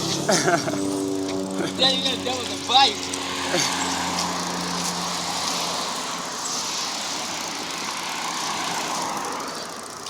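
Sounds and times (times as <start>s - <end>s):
tyre and road noise: 0.0s - 10.0s
vehicle engine hum: 0.0s - 10.0s.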